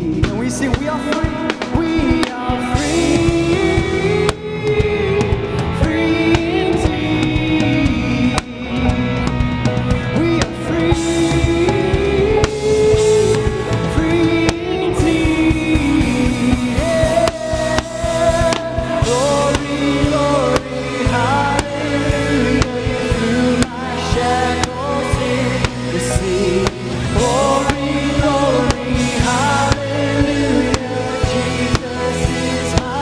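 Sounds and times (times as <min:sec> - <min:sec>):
rock worship band playing: 0:00.0 - 0:33.0.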